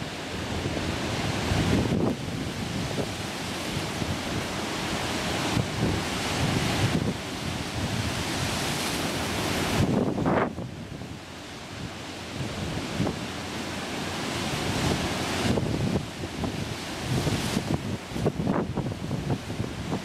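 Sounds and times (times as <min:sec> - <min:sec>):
wind buffeting microphone: 0:00.0 - 0:11.2, 0:14.4 - 0:20.0
ocean waves washing in surf: 0:00.0 - 0:20.0.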